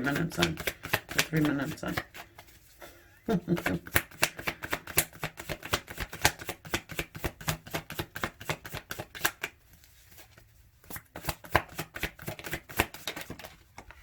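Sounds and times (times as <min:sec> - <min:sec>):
cards being shuffled: 0:00.0 - 0:02.8, 0:03.5 - 0:14.0.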